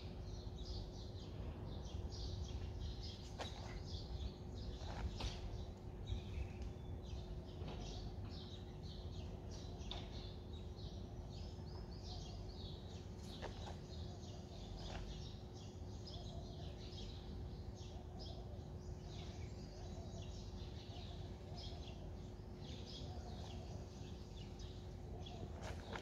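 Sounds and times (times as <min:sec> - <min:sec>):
faint steady hum: 0:00.0 - 0:26.0
small birds chirping: 0:00.0 - 0:26.0.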